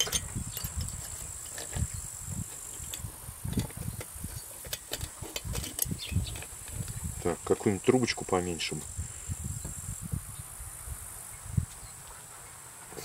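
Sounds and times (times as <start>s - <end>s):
high insect buzz: 0.0s - 12.0s.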